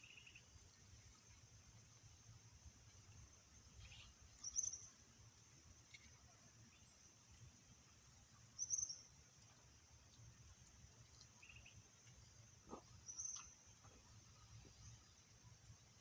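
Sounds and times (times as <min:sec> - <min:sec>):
crickets chirping chorus: 0:00.0 - 0:16.0.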